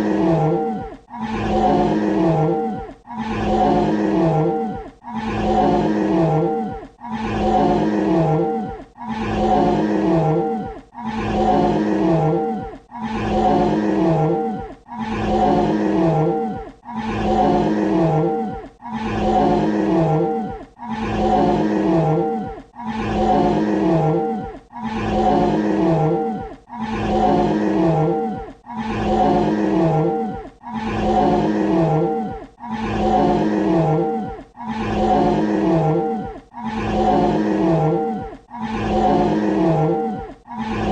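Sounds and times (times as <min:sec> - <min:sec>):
dinosaur roar: 0:00.0 - 0:40.9.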